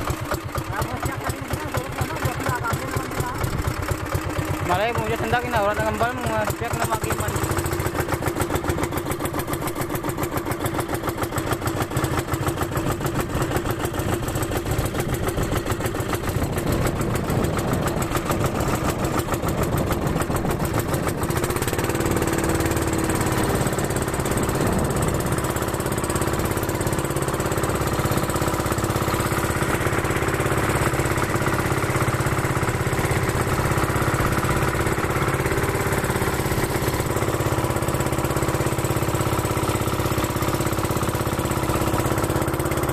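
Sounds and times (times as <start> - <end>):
boat motor running: 0.0 - 42.9.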